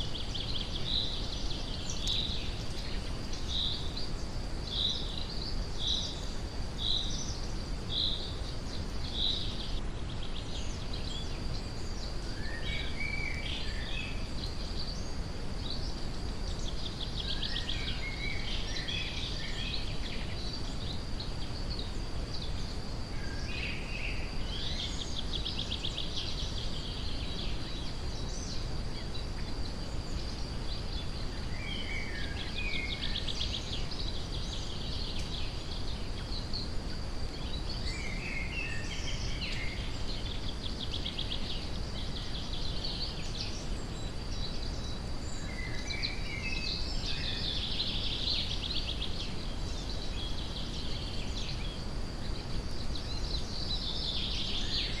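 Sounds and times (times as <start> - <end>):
songbirds singing: 0.0 - 55.0
steady noise hiss: 0.0 - 55.0.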